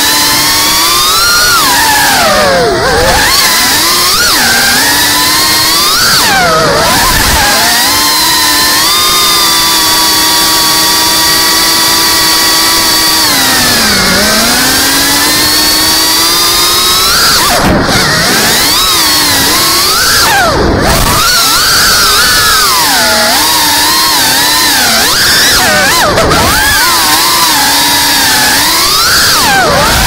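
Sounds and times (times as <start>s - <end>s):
drone motors and propellers whining: 0.0s - 30.0s.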